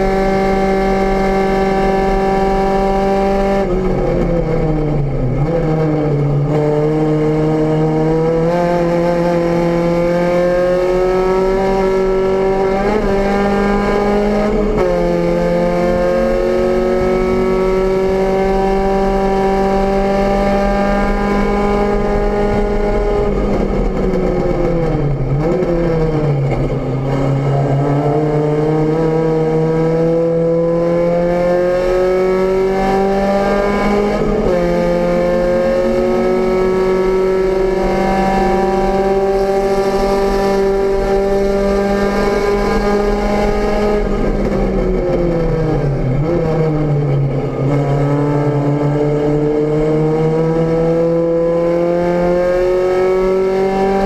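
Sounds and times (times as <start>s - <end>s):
race car engine from inside cabin: 0.0s - 54.0s.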